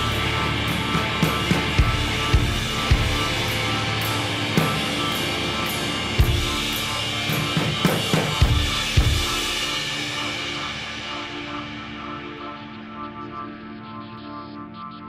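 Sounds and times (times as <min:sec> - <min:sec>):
drum kit playing: 0:00.0 - 0:13.0
held chords: 0:00.0 - 0:15.0.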